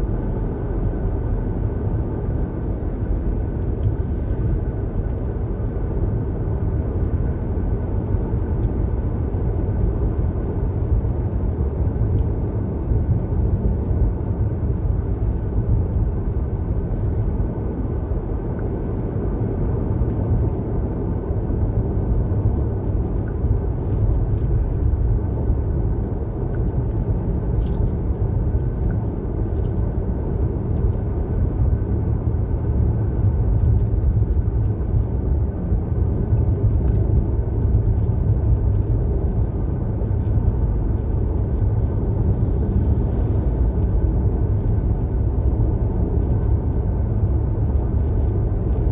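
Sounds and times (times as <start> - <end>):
car road rumble: 0.0 - 48.9.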